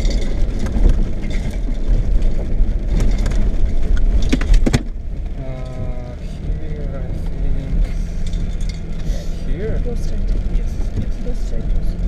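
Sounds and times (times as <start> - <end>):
sharp knocks and rattles: 0.0 - 5.9, 8.1 - 12.0
car rumbling on dirt track: 0.0 - 12.0.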